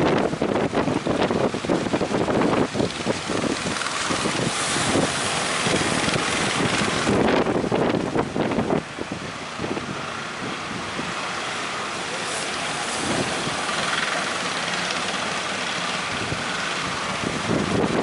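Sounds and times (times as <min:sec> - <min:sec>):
sea waves rushing: 0:00.0 - 0:18.0
wind buffeting microphone: 0:00.0 - 0:18.0.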